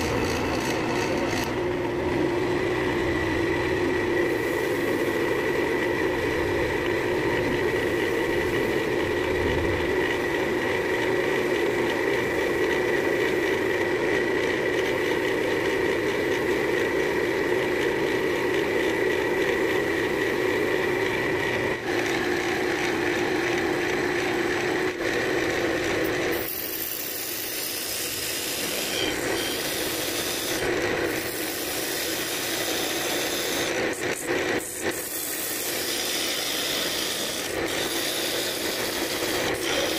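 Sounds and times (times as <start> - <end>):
tool scraping spinning wood: 0.0 - 1.7, 3.0 - 39.9
wood lathe humming: 0.0 - 39.9.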